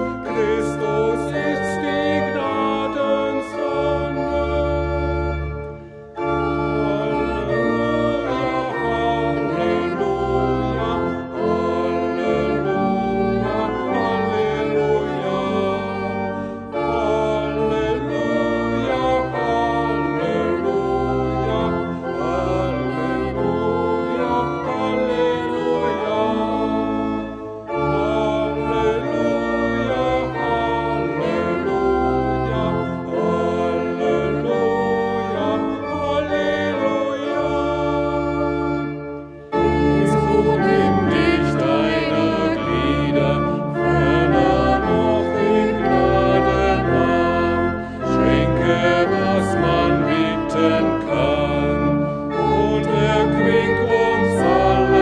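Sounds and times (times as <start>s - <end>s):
church pipe organ: 0.0s - 55.0s
woman and man singing a hymn: 6.6s - 38.7s, 39.5s - 55.0s.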